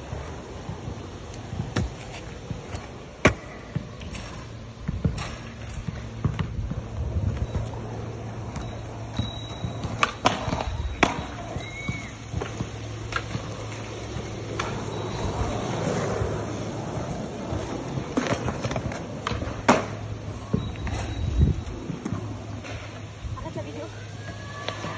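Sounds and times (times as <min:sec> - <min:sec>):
scooter wheels rolling on asphalt: 0:00.0 - 0:24.9.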